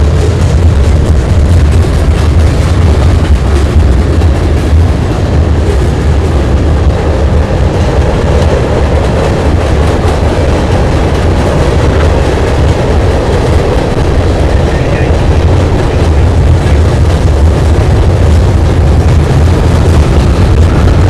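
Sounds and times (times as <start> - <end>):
train wheels rumbling on bridge: 0.0 - 21.0.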